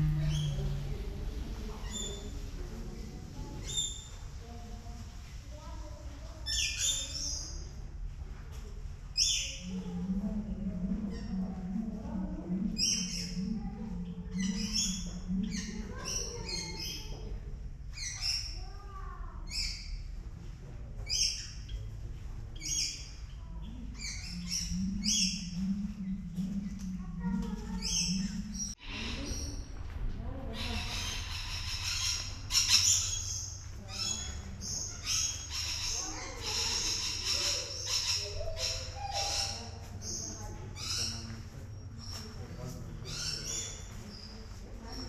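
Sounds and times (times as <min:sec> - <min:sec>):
low steady hum: 0:00.0 - 0:06.4, 0:07.0 - 0:45.0
birds chirping: 0:00.0 - 0:08.0, 0:09.1 - 0:20.4, 0:21.0 - 0:45.0.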